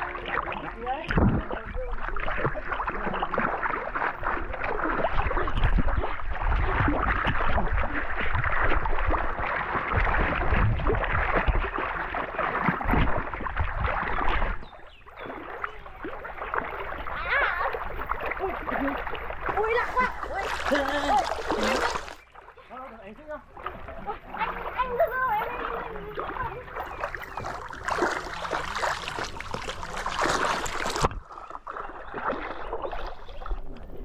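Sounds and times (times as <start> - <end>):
water splashing and churning: 0.0 - 34.0.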